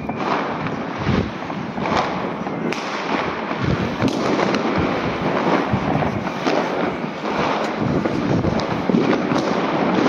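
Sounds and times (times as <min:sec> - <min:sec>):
firecracker bangs: 0:00.0 - 0:10.0
fireworks crackling and rumbling: 0:00.0 - 0:10.0.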